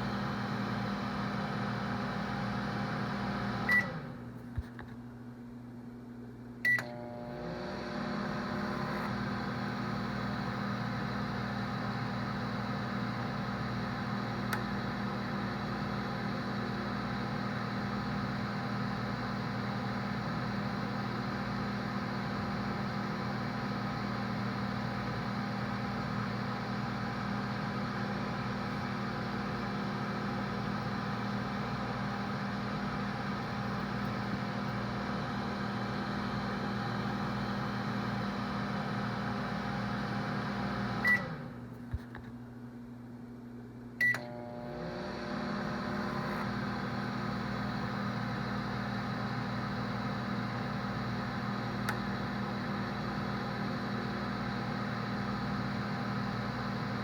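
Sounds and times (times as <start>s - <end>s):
microwave oven beep: 0.0s - 4.2s, 6.6s - 41.6s, 44.0s - 57.0s
microwave hum and fan whir: 0.0s - 57.0s.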